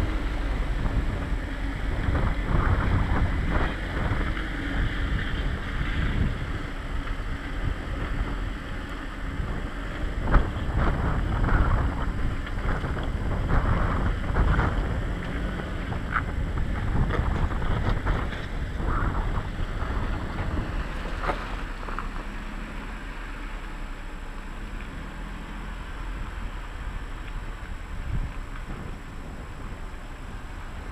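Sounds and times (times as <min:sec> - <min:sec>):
wind buffeting microphone: 0:00.0 - 0:23.2, 0:25.0 - 0:30.9
engine and drivetrain rumble: 0:00.0 - 0:30.9.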